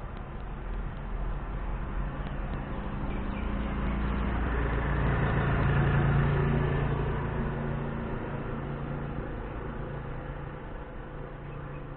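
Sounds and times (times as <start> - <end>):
road noise: 0.0 - 11.9
vehicle engine hum: 0.0 - 11.9.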